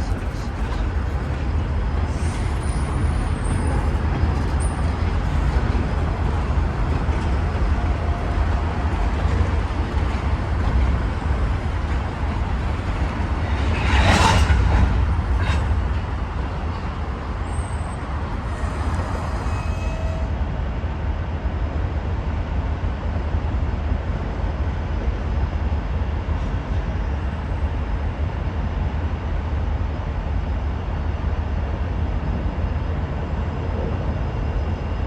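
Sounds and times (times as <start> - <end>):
diesel locomotive rumble: 0.0 - 35.0.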